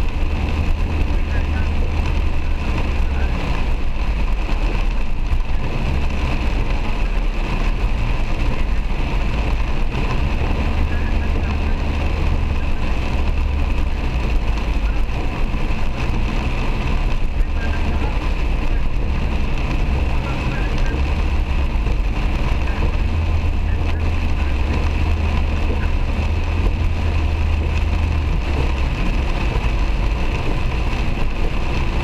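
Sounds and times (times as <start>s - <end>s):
engine and tyre rumble: 0.0s - 32.0s
heavy rain on a car: 0.0s - 32.0s.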